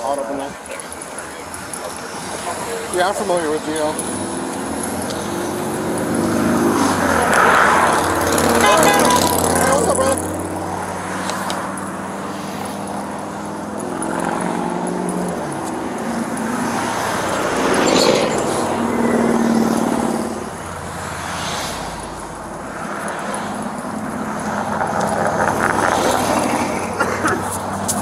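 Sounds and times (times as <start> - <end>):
cars and trucks driving past: 0.0 - 28.0.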